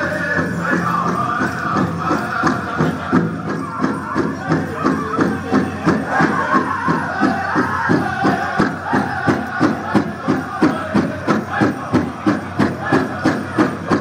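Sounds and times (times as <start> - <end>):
big drum beating fast: 0.0 - 14.0
group singing: 0.0 - 14.0.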